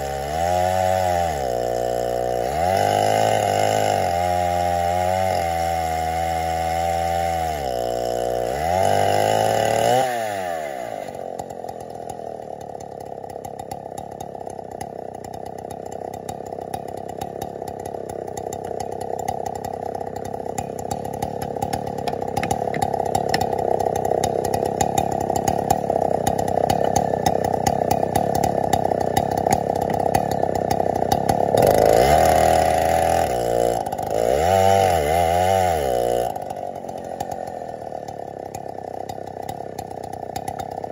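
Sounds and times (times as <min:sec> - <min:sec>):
chainsaw cutting through wood: 0:00.0 - 0:40.9.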